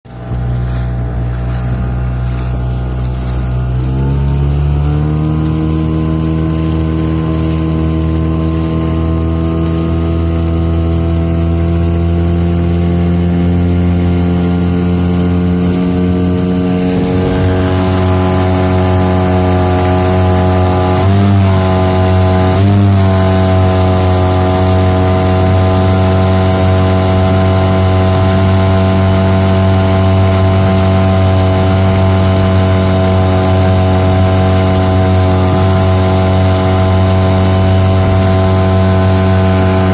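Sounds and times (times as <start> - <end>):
outboard motor running: 0.0 - 39.9
rushing water: 0.0 - 39.9
wind: 0.0 - 39.9.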